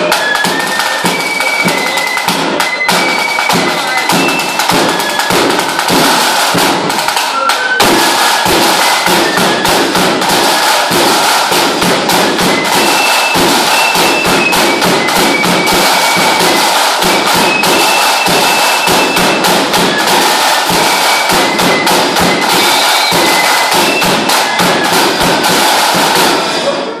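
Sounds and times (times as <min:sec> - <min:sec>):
drum beaten with canes: 0:00.0 - 0:27.0.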